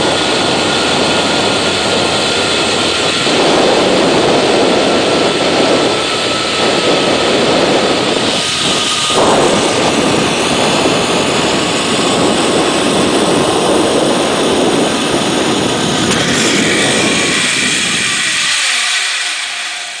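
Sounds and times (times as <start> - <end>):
wind rushing over microphone: 0.0 - 20.0
zip-line pulley whirring: 0.0 - 20.0.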